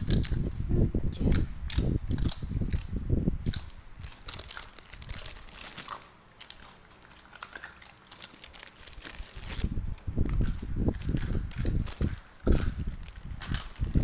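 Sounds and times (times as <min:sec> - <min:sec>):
puppies chewing wet clicks: 0:01.3 - 0:14.0.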